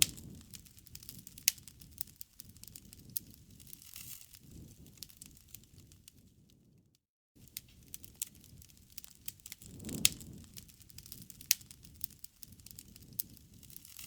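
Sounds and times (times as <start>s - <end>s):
sharp pops of fire: 0.0s - 6.6s, 7.4s - 14.0s
campfire crackling: 0.0s - 6.8s, 7.4s - 14.0s.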